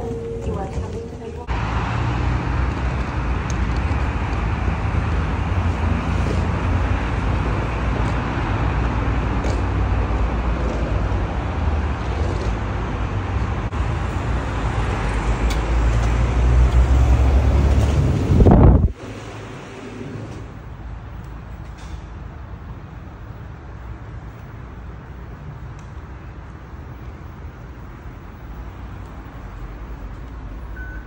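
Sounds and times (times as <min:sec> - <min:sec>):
urban background rumble: 0:00.0 - 0:31.0.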